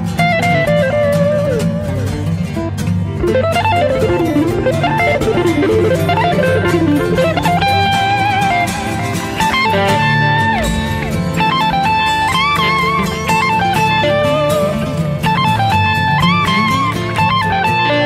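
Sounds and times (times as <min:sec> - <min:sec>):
bass: 0:00.0 - 0:18.0
blues-rock electric guitar: 0:00.0 - 0:18.0.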